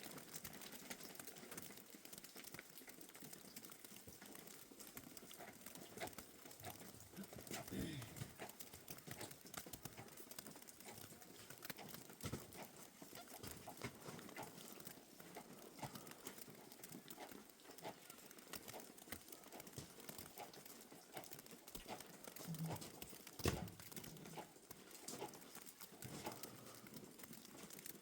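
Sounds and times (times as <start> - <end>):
faint knocks and clicks: 0.1 - 28.0.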